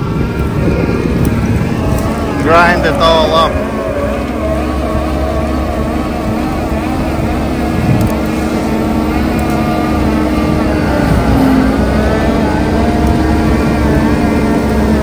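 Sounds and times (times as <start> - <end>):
diesel engine rumbling under load: 0.0 - 15.0
wavering high whine: 0.0 - 15.0.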